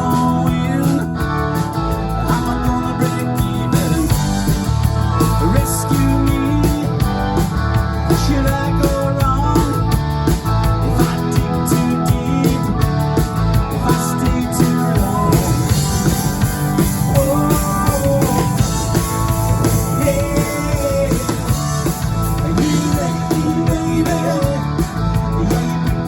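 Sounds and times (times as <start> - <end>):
drum kit: 0.0 - 26.0
rock band playing: 0.0 - 26.0.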